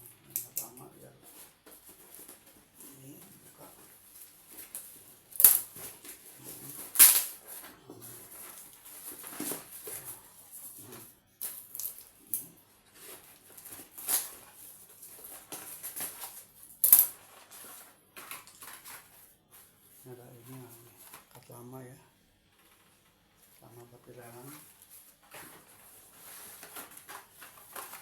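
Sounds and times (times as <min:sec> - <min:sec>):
packaging crinkling and rustling: 0:00.2 - 0:10.2, 0:12.9 - 0:21.6, 0:22.5 - 0:28.0.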